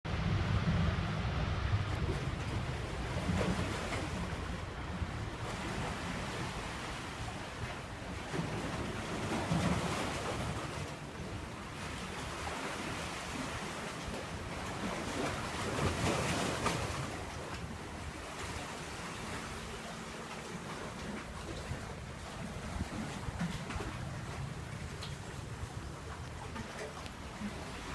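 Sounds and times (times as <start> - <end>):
wind rumbling on microphone: 0.0 - 27.9
sea waves washing on shore: 0.1 - 27.9.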